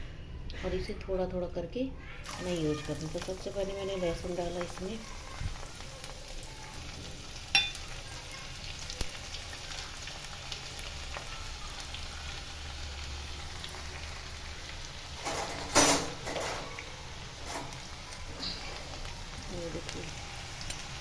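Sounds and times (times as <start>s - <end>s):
garlic sizzling in oil: 2.2s - 21.0s.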